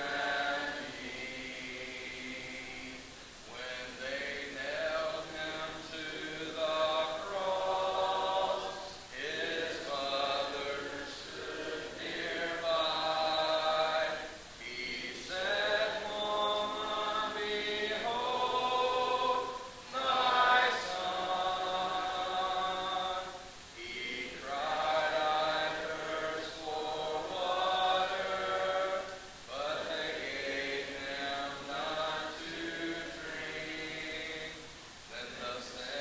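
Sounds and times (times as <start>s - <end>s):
congregation singing a hymn: 0.0s - 36.0s
man leading hymn singing: 0.0s - 36.0s.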